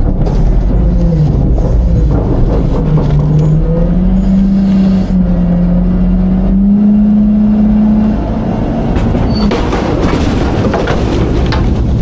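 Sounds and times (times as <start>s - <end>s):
garbage truck engine rumble: 0.0s - 12.0s.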